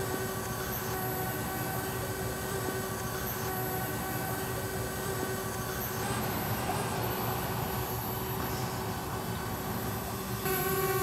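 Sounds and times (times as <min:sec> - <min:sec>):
quadcopter propellers buzzing whine: 0:00.0 - 0:11.0.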